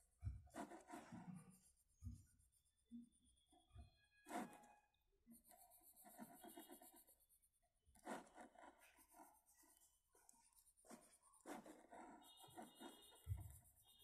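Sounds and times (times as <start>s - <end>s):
pencil scratching on paper: 0.0s - 3.2s, 4.2s - 14.0s.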